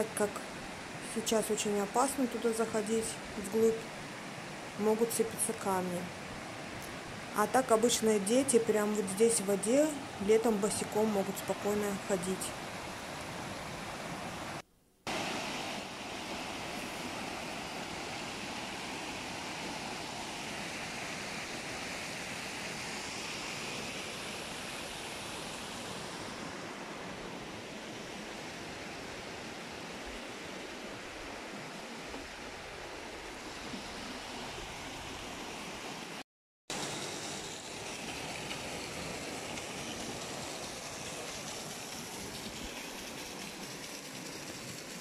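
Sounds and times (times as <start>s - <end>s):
stream rushing over stones: 0.0s - 45.0s.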